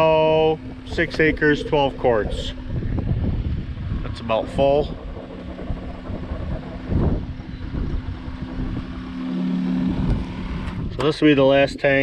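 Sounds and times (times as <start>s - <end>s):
motor humming: 0.0s - 11.9s.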